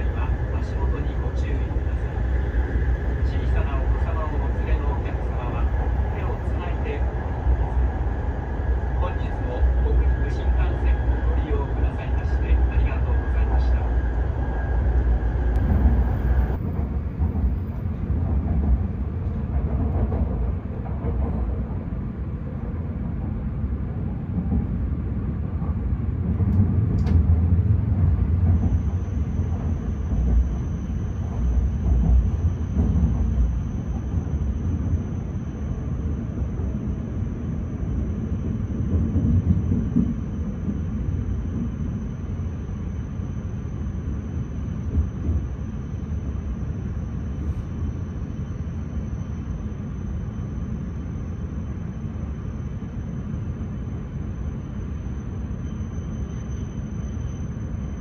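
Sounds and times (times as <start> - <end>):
train running gear rumble: 0.0 - 58.0.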